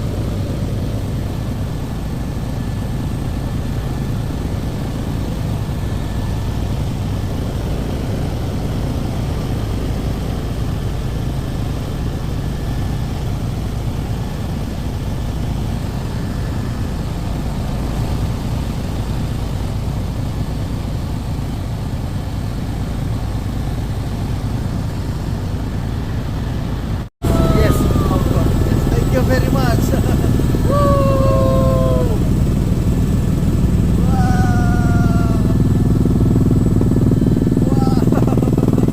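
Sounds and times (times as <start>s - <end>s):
helicopter drone: 0.0s - 38.9s.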